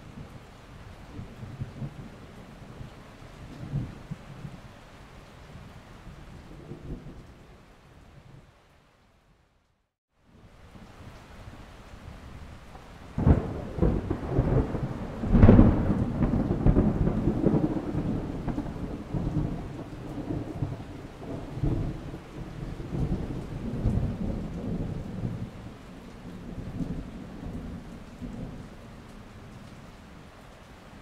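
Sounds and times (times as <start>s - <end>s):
thunder crack and rolling rumble: 0.1s - 8.5s, 12.1s - 30.1s.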